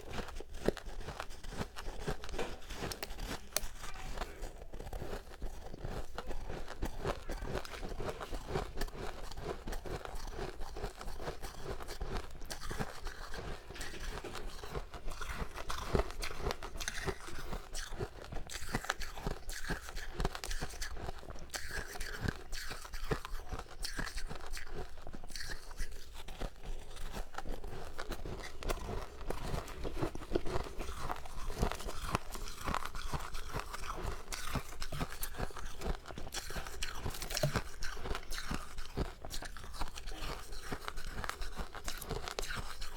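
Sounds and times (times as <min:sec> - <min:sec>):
chewing frost crunches: 0:00.0 - 0:42.9.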